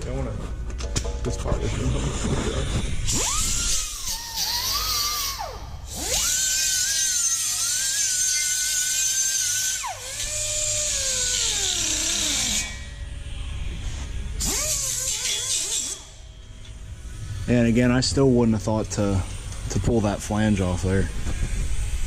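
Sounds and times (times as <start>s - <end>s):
rotary power tool whining: 1.7s - 22.0s.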